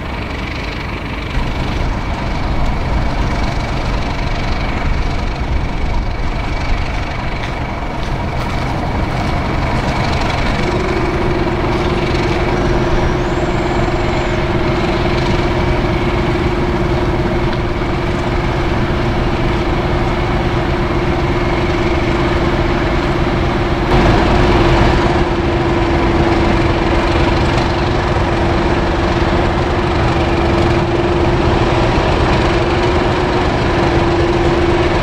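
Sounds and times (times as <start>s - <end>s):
diesel locomotive engines idling: 0.0s - 35.0s.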